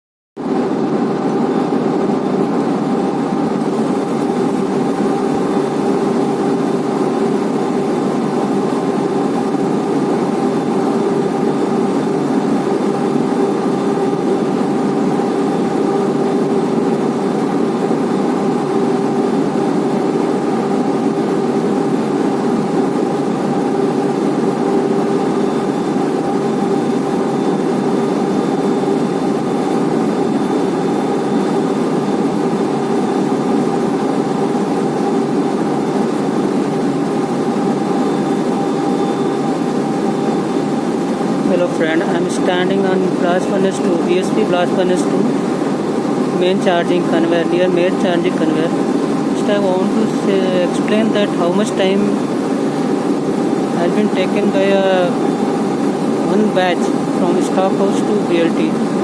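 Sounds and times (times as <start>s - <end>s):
conveyor mechanical drone: 0.4s - 59.0s.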